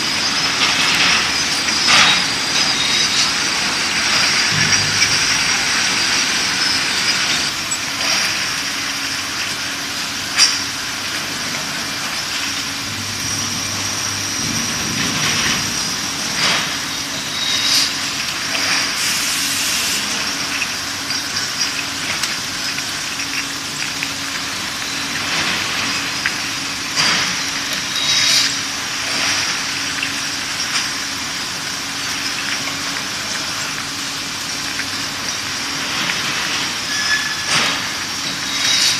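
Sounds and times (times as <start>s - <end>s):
machine hiss and hum: 0.0s - 38.9s.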